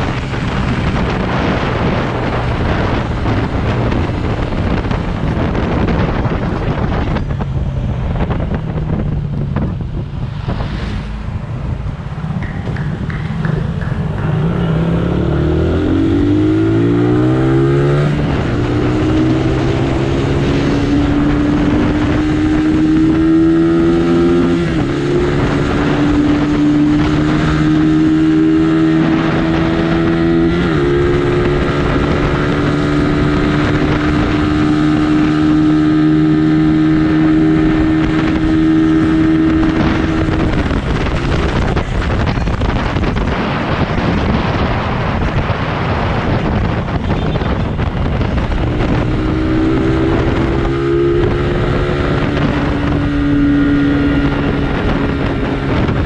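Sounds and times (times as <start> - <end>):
motorcycle engine running hard: 0.0 - 10.2, 11.7 - 56.0
wind rushing over microphone: 0.0 - 56.0.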